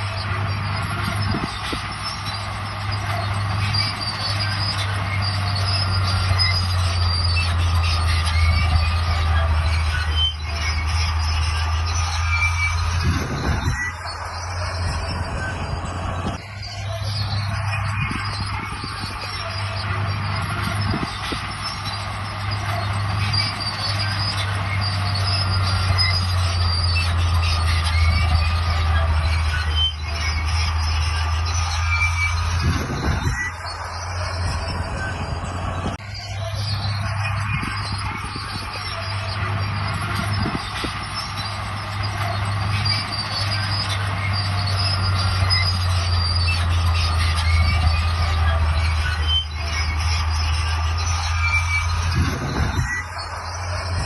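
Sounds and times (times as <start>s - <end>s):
diesel engine droning: 0.0s - 54.0s
steel tracks squealing and clattering: 0.0s - 54.0s.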